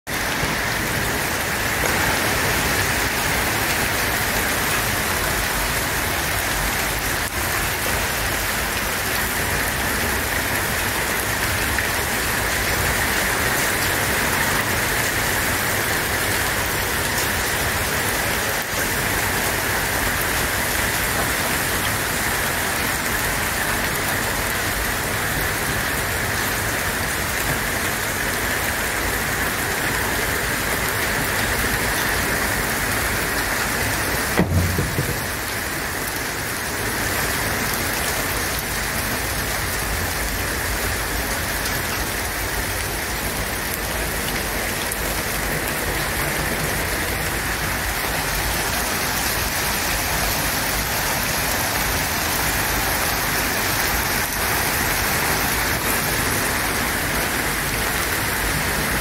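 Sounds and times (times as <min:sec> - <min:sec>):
steady rain falling: 0:00.1 - 0:59.0.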